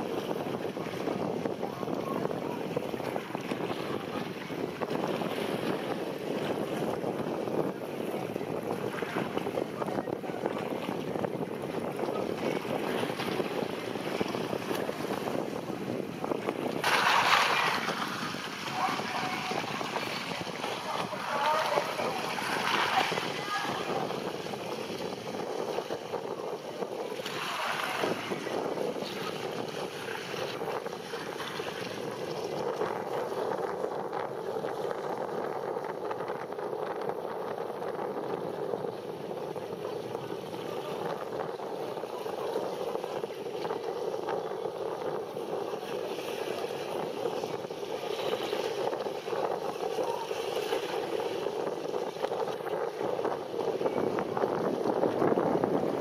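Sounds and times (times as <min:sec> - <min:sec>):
waves washing: 0:00.0 - 0:56.0
wind buffeting microphone: 0:00.0 - 0:56.0.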